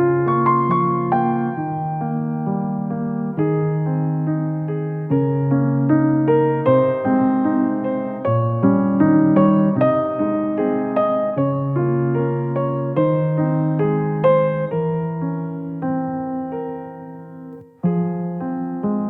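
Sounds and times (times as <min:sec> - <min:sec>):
calm piano music: 0:00.0 - 0:19.0.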